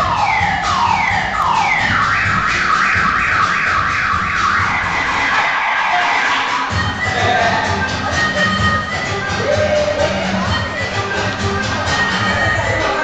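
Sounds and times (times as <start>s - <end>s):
car alarm siren whoops: 0.0s - 11.1s
dance track drum beat: 0.0s - 13.0s.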